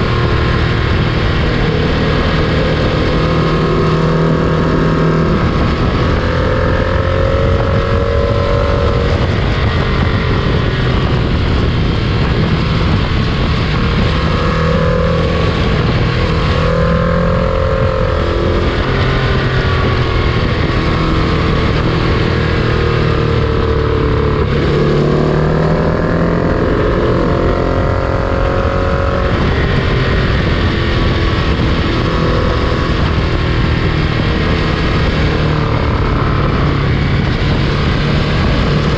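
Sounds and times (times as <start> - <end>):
freight train rumbling: 0.0 - 38.9
wind noise on microphone: 0.0 - 38.9.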